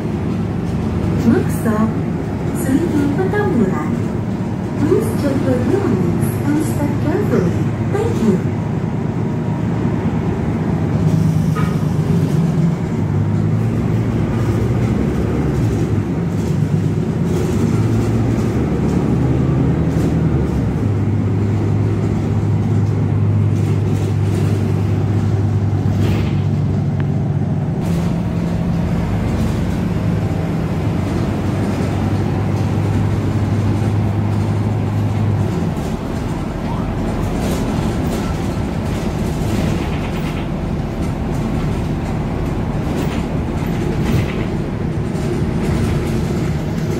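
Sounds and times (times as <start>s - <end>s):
bus engine drone: 0.0s - 46.9s
road noise: 0.0s - 46.9s.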